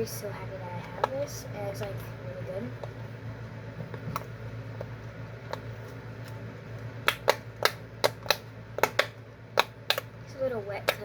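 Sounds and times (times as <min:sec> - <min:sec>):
low fan hum: 0:00.0 - 0:11.0.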